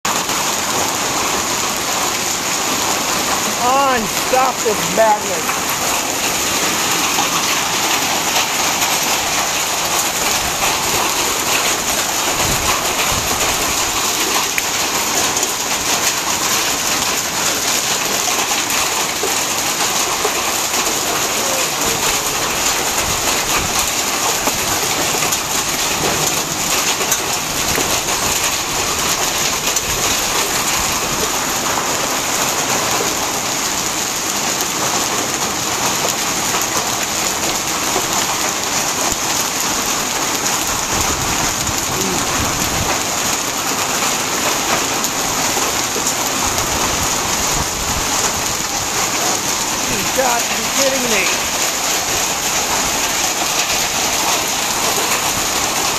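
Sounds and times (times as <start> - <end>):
hail pelting down: 0.1 - 55.9
hail splashing into water: 0.1 - 55.9.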